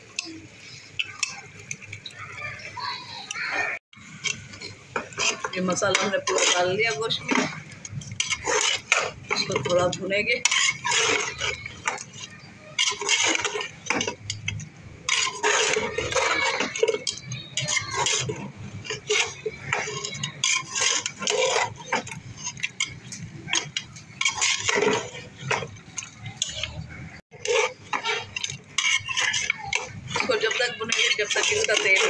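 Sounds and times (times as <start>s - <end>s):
metal spoon scraping a metal pot: 0.1s - 2.1s, 4.0s - 32.0s.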